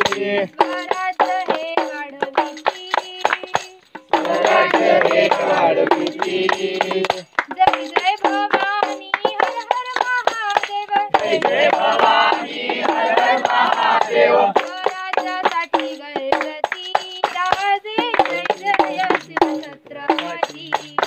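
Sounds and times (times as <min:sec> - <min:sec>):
singing over clicking beat: 0:00.0 - 0:21.0.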